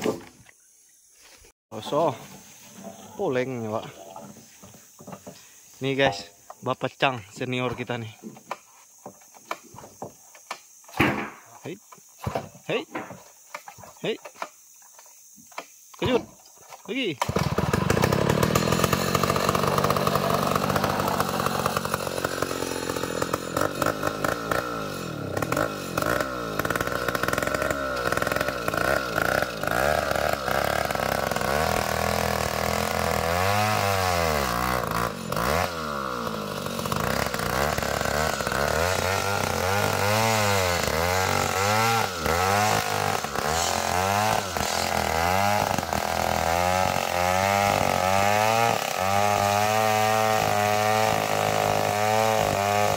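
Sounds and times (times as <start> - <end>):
chainsaw cutting log: 0.0 - 0.4, 7.2 - 52.9.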